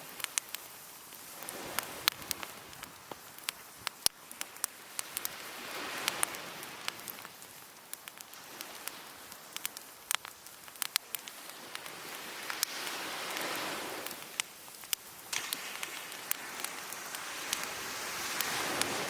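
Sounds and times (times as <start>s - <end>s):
surf washing onto beach: 0.0s - 19.0s
wood fire crackling and popping: 0.0s - 19.0s.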